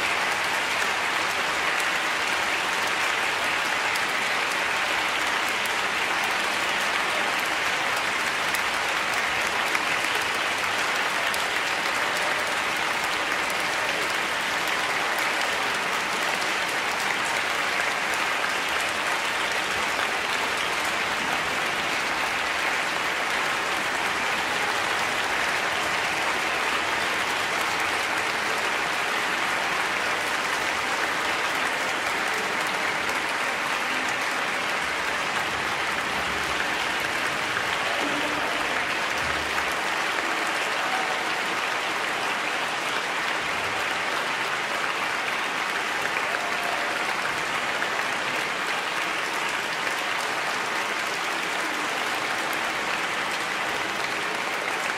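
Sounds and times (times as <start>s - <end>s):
audience applauding: 0.0s - 54.9s.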